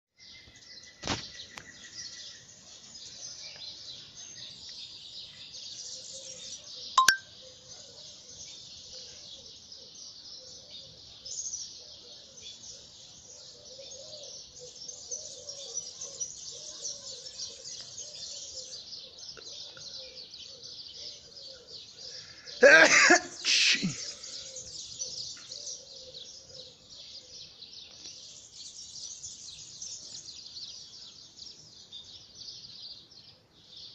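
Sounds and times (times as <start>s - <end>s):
birds chirping and chattering: 0.2s - 33.9s.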